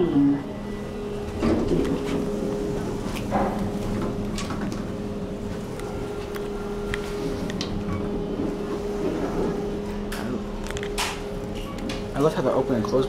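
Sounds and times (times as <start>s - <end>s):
elevator hum with fan whirr: 0.0s - 13.0s
sliding doors closing: 0.6s - 12.3s.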